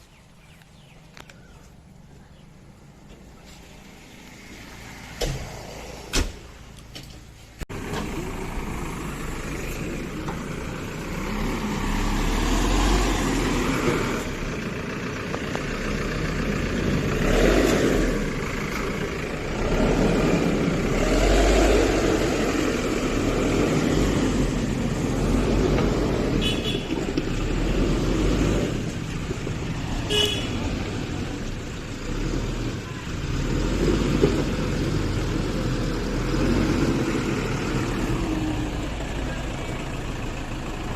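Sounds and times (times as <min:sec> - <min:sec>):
heavy vehicles passing: 0:00.0 - 0:40.9.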